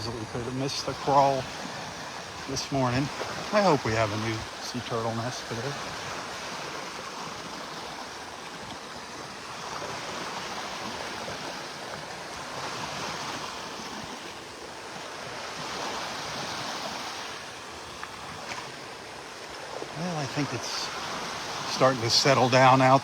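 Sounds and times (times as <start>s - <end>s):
surf washing up beach: 0.0s - 23.0s.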